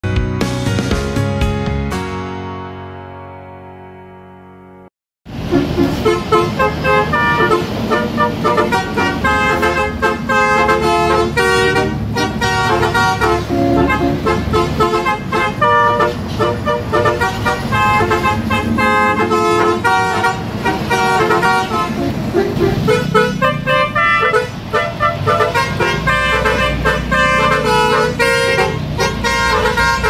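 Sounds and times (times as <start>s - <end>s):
road traffic rumble: 5.3s - 30.0s
truck air horn notes: 5.4s - 30.0s.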